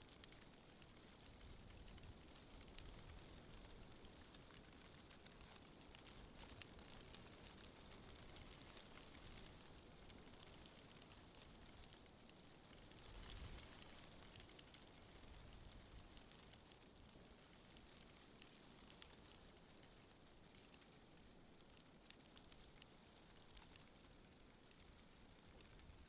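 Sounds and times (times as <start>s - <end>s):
light ticks and rustles: 0.0s - 26.0s.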